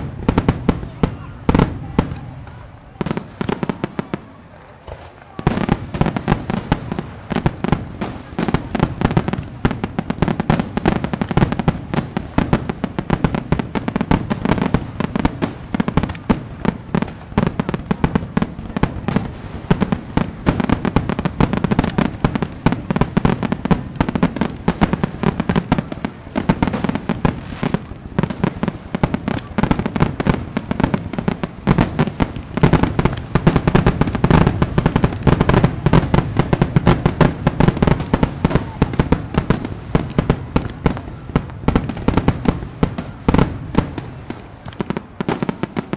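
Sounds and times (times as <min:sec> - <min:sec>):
fireworks crackling and banging: 0:00.0 - 0:45.9.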